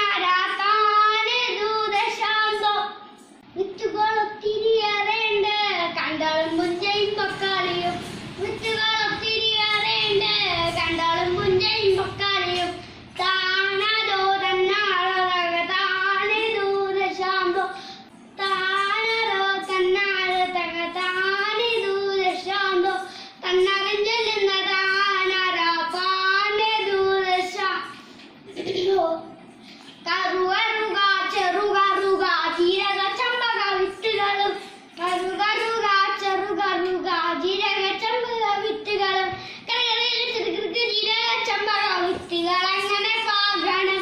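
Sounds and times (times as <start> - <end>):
boy singing folk song: 0.0 - 44.0.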